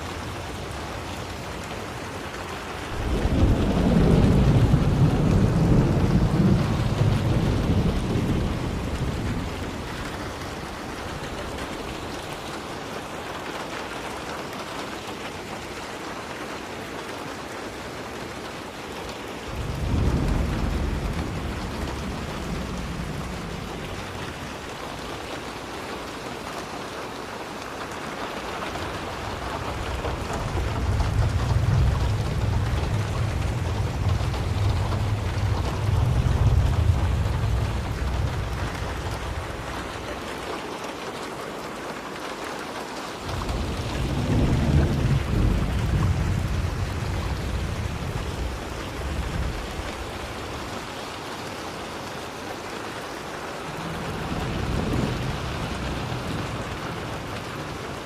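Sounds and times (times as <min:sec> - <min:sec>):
thunder rumbling: 0:00.0 - 0:12.8, 0:19.4 - 0:25.9, 0:28.4 - 0:41.0, 0:43.2 - 0:58.0
heavy rain falling: 0:00.0 - 0:58.0.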